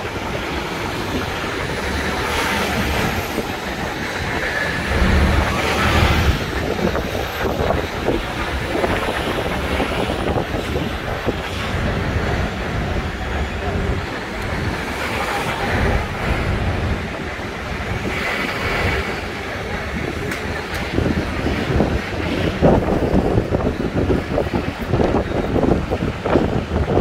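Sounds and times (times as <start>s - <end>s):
bus rumbling: 0.0s - 27.0s
city traffic noise: 0.0s - 27.0s.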